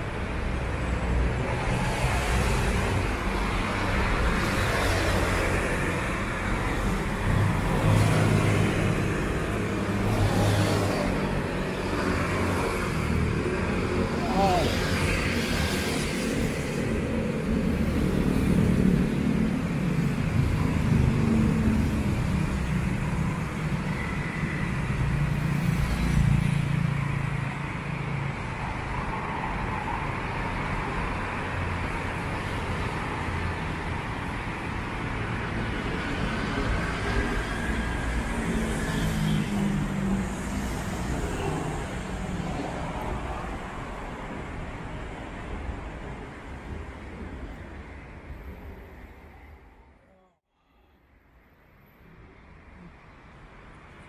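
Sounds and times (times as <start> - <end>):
traffic rumble: 0.0 - 50.4.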